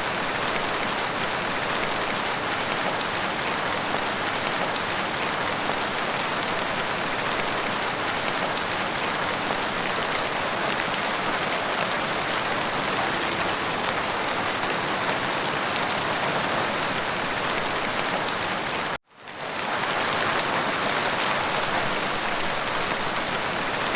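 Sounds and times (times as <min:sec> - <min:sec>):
steady rain: 0:00.0 - 0:23.9.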